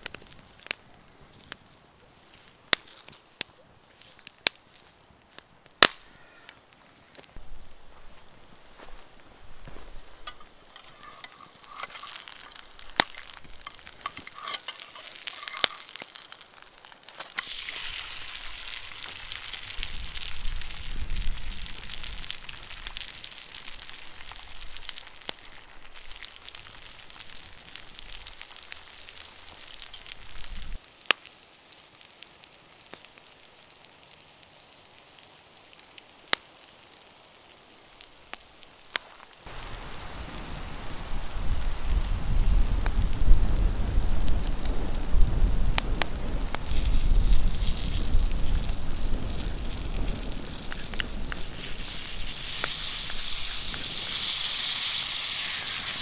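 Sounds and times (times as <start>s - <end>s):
batter and bacon sizzling: 0.0s - 56.0s.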